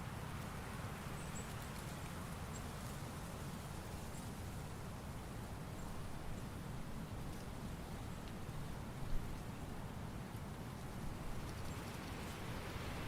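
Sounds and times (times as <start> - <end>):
soft even hiss: 0.0 - 13.0.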